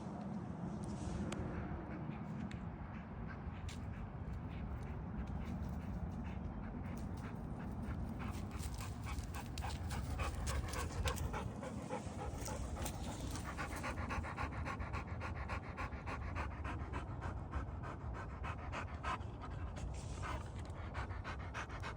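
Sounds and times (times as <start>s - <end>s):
dog panting: 1.6s - 21.9s.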